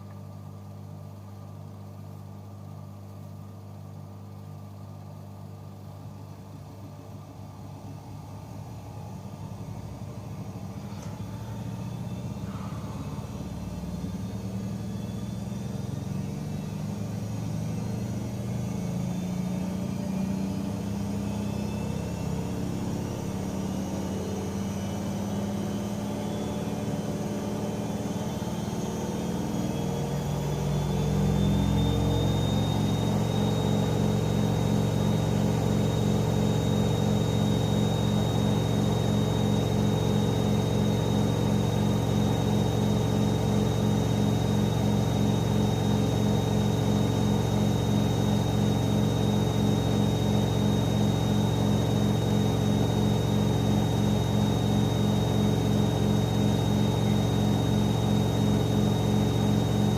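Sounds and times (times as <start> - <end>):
washing machine spinning up: 0.0 - 59.9.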